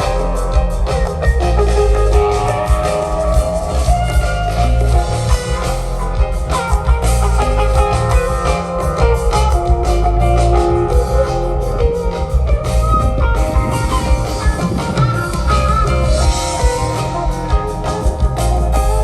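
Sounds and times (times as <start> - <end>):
bass guitar: 0.0 - 19.0
drum kit: 0.0 - 19.0
electric guitar lines: 0.0 - 19.0.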